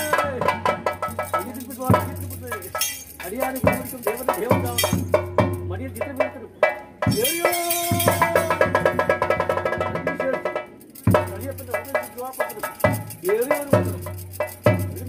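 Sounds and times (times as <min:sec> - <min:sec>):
small metal hand cymbals: 0:00.0 - 0:09.5, 0:10.5 - 0:15.0
rapid drum strokes: 0:00.0 - 0:15.0.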